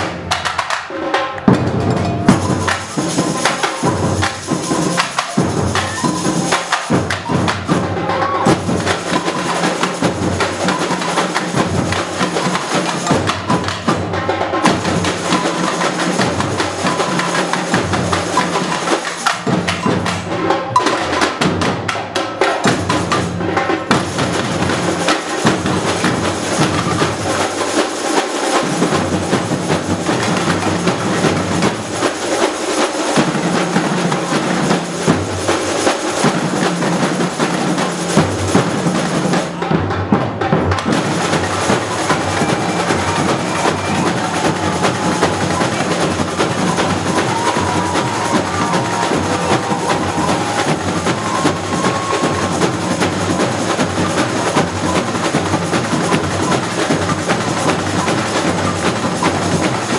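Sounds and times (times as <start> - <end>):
fast hand percussion and shakers: 0.0 - 59.9.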